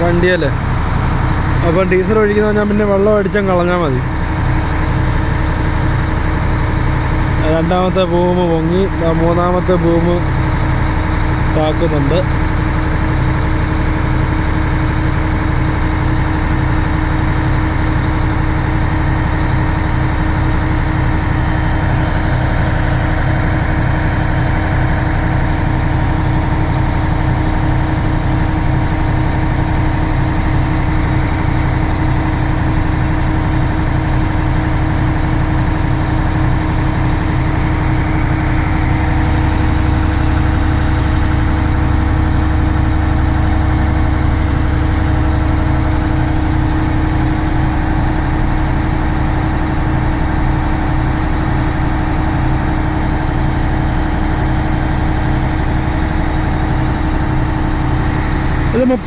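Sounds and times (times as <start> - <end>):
engine low rumble: 0.0 - 59.0.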